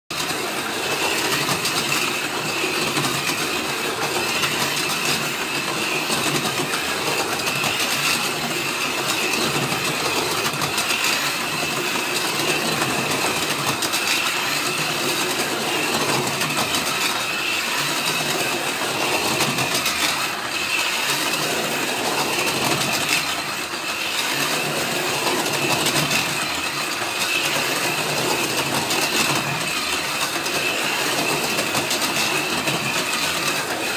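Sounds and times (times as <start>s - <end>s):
slot cars rattling: 0.1s - 33.9s
small electric motors whining: 0.2s - 33.9s.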